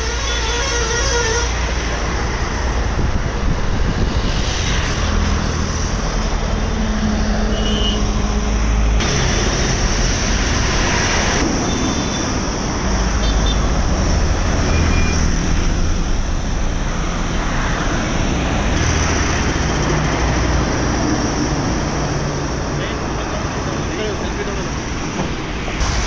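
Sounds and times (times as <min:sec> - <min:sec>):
road traffic roar: 0:00.0 - 0:26.0.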